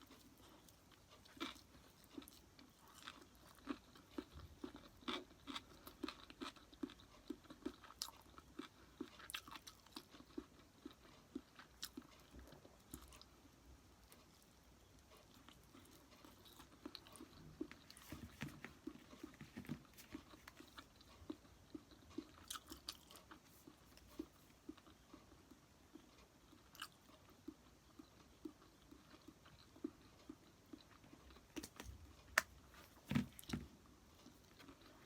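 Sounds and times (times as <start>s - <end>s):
soft chewing: 0.0s - 35.0s.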